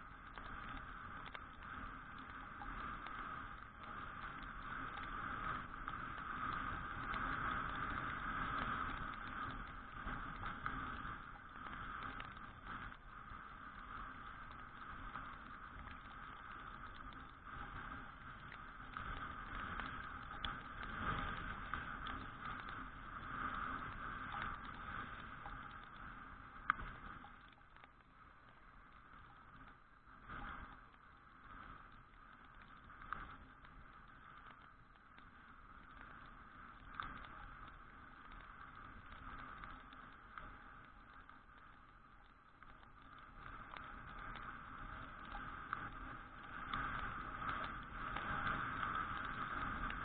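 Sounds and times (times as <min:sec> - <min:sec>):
muffled scooter riding noise in rain: 0:00.0 - 0:50.0.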